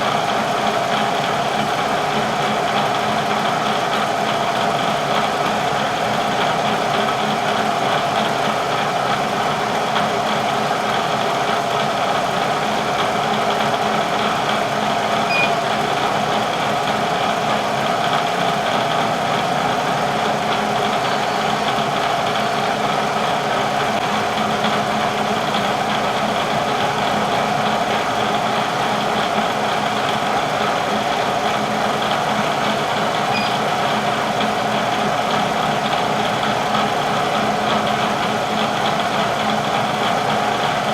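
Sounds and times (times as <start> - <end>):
milling machine humming: 4.8 - 40.7.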